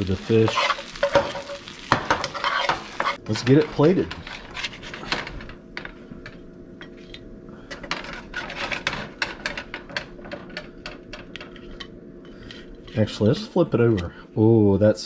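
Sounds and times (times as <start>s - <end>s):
spatula scraping frying pan: 0.0s - 7.1s, 7.7s - 13.6s
steady low hum: 0.0s - 15.0s.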